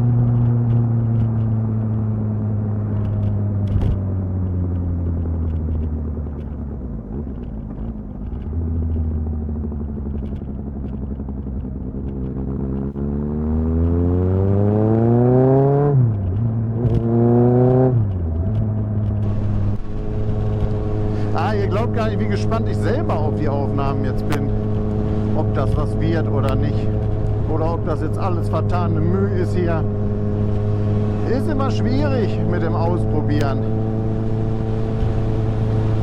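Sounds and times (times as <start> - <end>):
gear upshifts: 0.0 - 36.0
motorcycle engine revving: 0.0 - 36.0.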